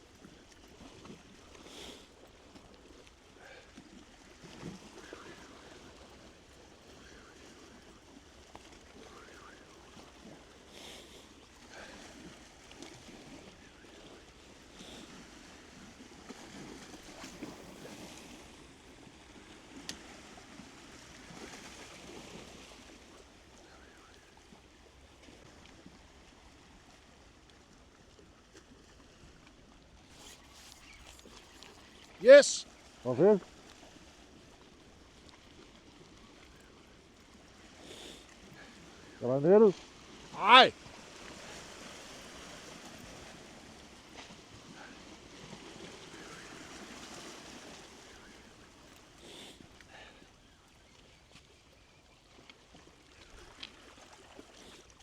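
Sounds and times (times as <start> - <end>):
small waves washing: 0.0 - 55.0.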